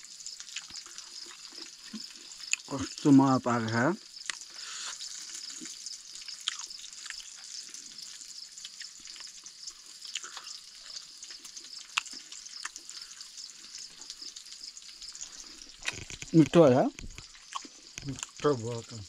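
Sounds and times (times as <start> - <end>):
chewing and lip-smacking: 0.0 - 3.0, 4.2 - 18.9
faint high hiss: 0.0 - 17.6.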